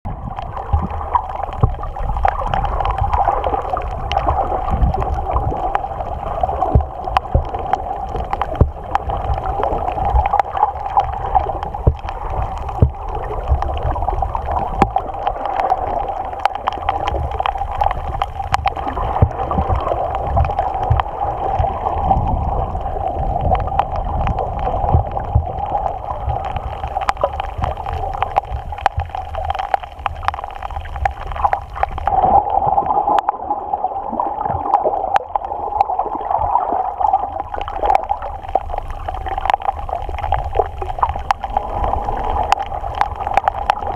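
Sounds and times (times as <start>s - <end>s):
underwater water noise: 0.0s - 43.9s
sharp underwater clicks: 0.2s - 33.4s, 34.4s - 43.9s.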